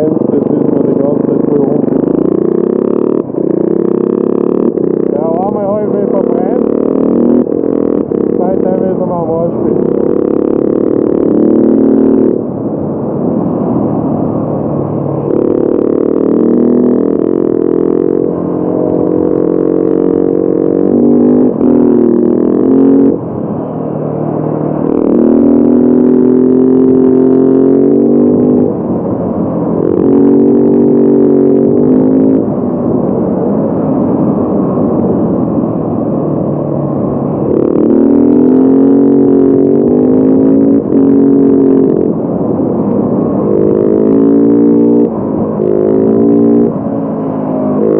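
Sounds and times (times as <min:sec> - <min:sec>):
motorcycle engine changing gears: 0:00.0 - 0:12.4, 0:15.0 - 0:47.9.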